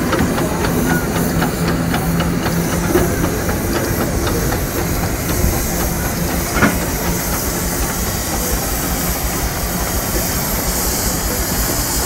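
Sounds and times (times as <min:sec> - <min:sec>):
loud steam hiss: 0:00.0 - 0:12.0.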